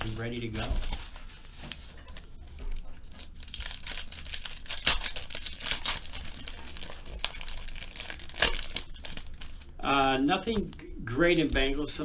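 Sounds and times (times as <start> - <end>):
plastic wrappers crinkling and tearing: 0.0 - 12.0.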